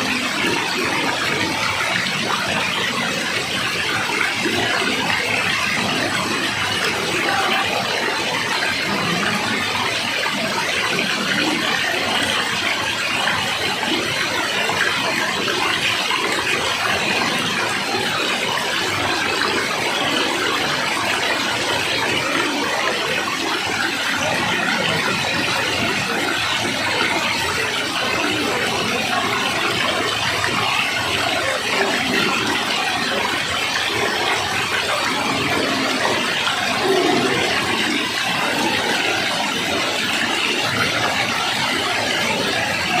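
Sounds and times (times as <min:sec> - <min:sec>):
flowing water rushing: 0:00.0 - 0:43.0.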